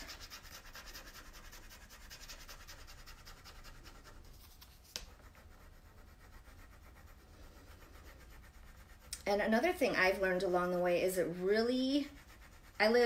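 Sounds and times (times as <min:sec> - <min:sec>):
stick scratching over plastic sheet: 0:00.0 - 0:13.0.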